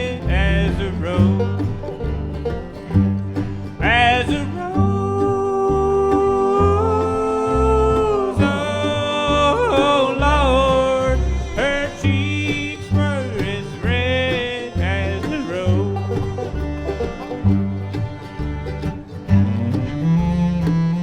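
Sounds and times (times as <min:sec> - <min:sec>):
bluegrass band playing: 0:00.0 - 0:21.0
bowed cello lead: 0:00.0 - 0:21.0.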